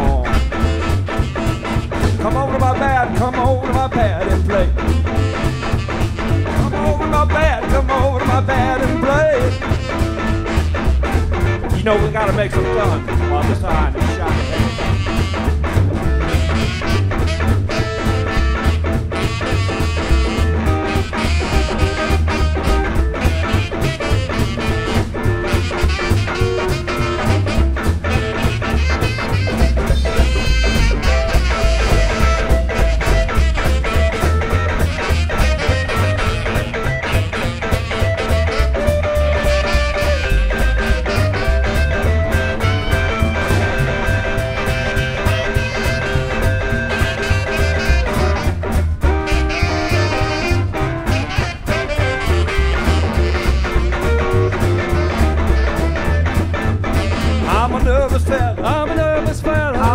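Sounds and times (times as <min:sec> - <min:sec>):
drum kit: 0:00.0 - 0:59.9
electric guitar: 0:00.0 - 0:59.9
upright bass: 0:00.0 - 0:59.9.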